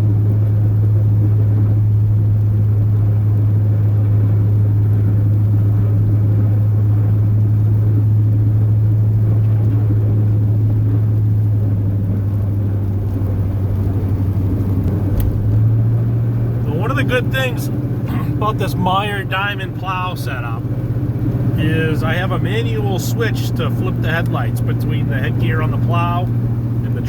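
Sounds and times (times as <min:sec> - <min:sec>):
truck engine low drone: 0:00.0 - 0:27.0.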